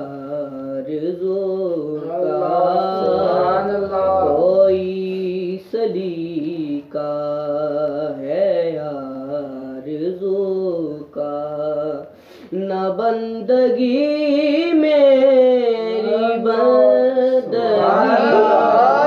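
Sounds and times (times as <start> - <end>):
man singing devotional song: 0.0 - 18.7.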